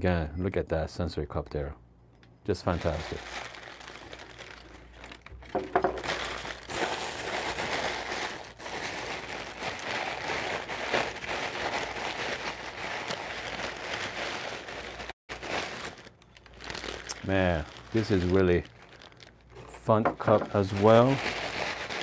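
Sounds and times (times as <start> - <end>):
tissue paper crinkling: 2.7 - 22.0.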